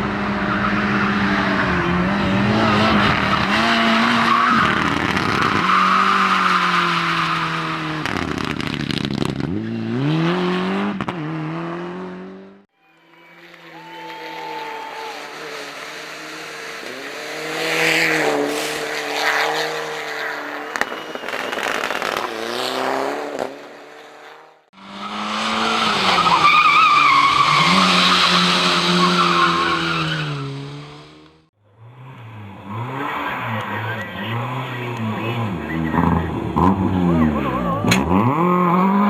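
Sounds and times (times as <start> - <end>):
race car engine revving: 0.0 - 13.7, 14.3 - 39.0.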